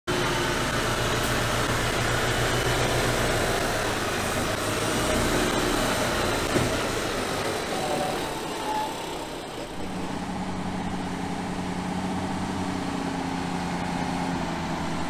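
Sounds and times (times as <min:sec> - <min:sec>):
truck diesel engine at low revs: 0:00.1 - 0:15.0.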